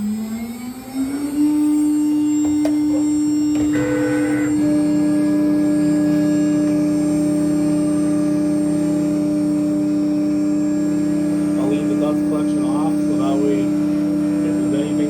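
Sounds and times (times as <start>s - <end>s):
router spindle whine: 0.0s - 15.0s
higher spindle tone: 2.3s - 15.0s.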